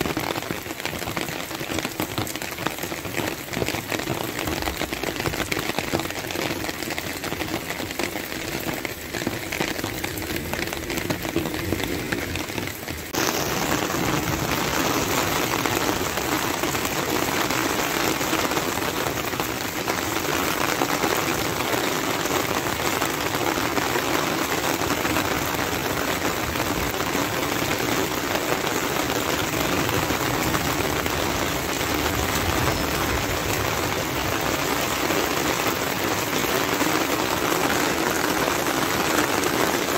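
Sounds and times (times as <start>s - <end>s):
heavy rain on wet pavement: 0.0s - 39.9s.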